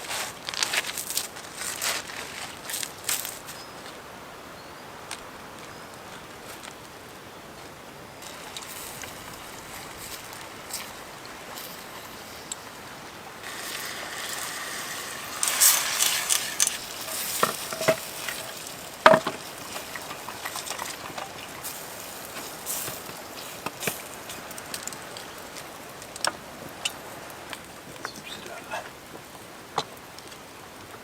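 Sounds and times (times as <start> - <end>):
sizzling and crackling: 0.0 - 4.1, 5.0 - 31.0.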